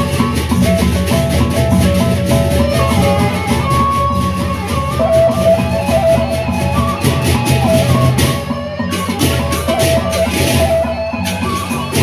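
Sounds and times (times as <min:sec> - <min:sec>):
large barrel drums: 0:00.0 - 0:12.0.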